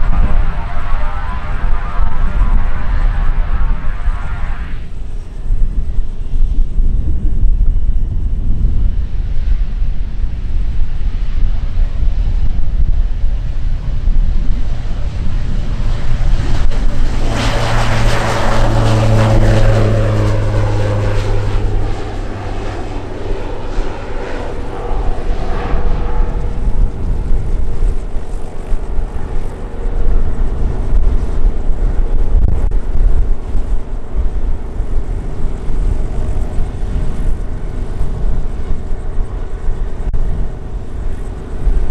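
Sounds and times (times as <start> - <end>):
turboprop plane taking off: 0.0 - 41.9.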